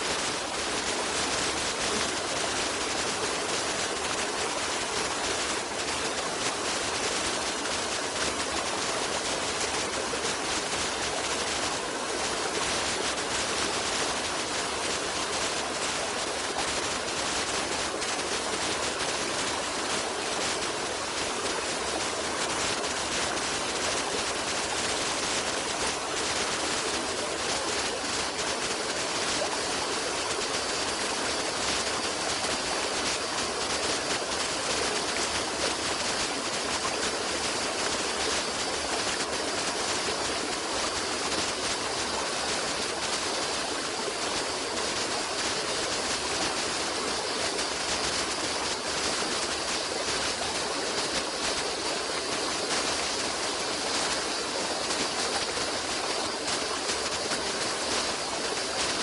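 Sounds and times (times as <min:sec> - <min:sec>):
stream of water running: 0:00.0 - 0:59.0.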